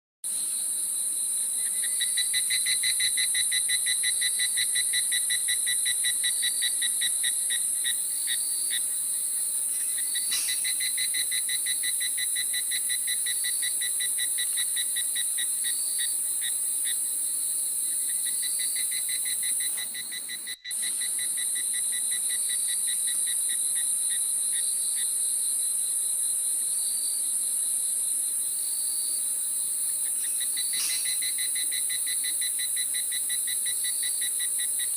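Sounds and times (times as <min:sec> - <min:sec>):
short insect chirps: 0:00.3 - 0:25.9, 0:30.0 - 0:34.9
high-pitched insect buzz: 0:00.3 - 0:26.1, 0:28.4 - 0:34.9
fast pulsing insect trill: 0:00.3 - 0:27.5, 0:28.3 - 0:34.9.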